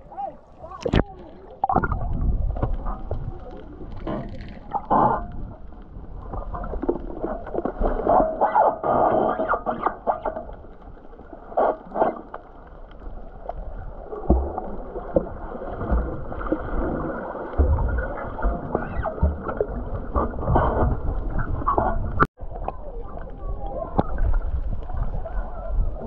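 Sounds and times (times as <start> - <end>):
muffled water sloshing: 0.0 - 26.0.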